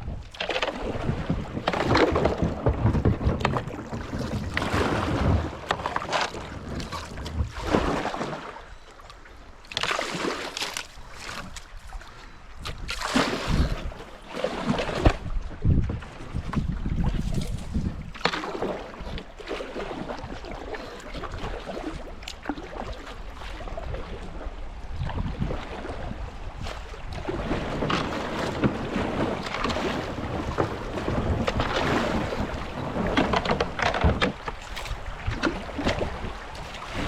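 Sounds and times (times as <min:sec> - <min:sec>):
wind rumble on microphone: 0:00.0 - 0:08.5, 0:11.0 - 0:37.0
water rushing and splashing: 0:00.0 - 0:08.8, 0:09.6 - 0:15.8, 0:16.9 - 0:37.0
paddle strokes splashing: 0:00.0 - 0:37.0.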